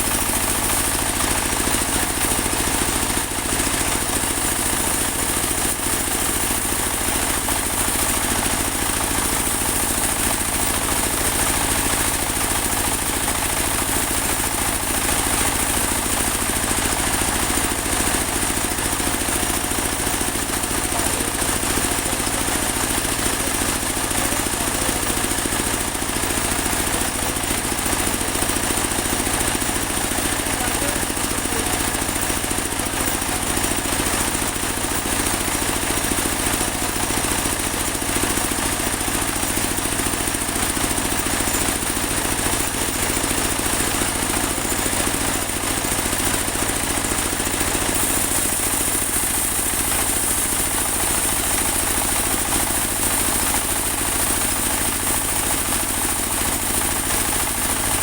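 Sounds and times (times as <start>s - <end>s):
band sawmill engine running: 0.0s - 58.0s.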